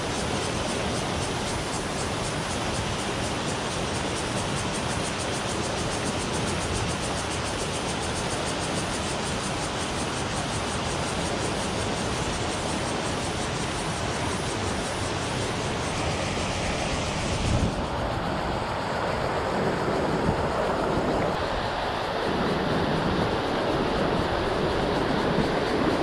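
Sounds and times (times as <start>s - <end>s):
river water rushing over weir: 0.0s - 26.0s.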